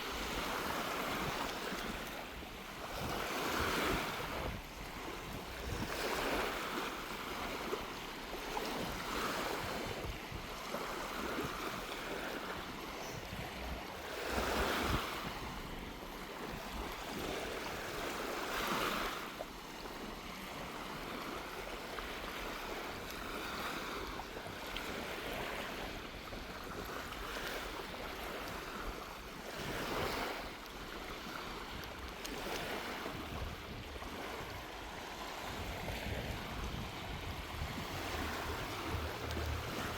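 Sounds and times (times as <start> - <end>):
small waves washing on shore: 0.0 - 39.9
wind rumbling on microphone: 0.0 - 39.9.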